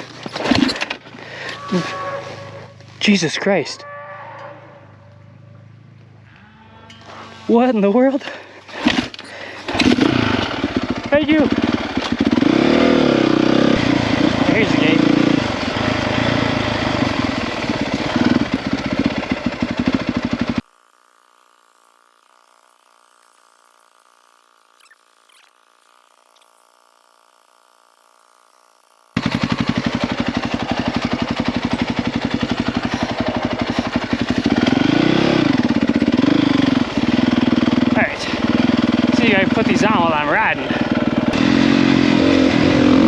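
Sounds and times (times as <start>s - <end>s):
dirt bike engine running: 0.0s - 43.0s.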